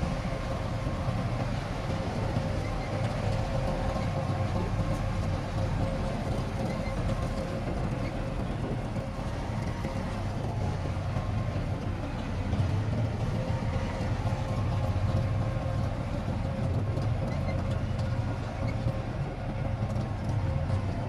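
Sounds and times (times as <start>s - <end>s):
diesel construction machinery: 0.0s - 21.0s.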